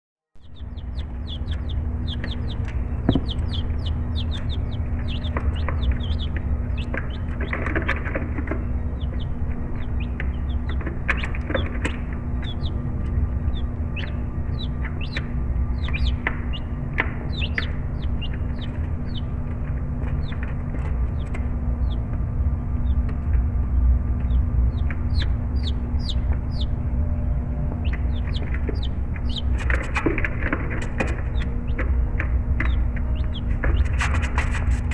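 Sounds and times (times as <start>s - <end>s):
chicks peeping: 0.4s - 34.9s
steady low hum: 0.4s - 34.9s.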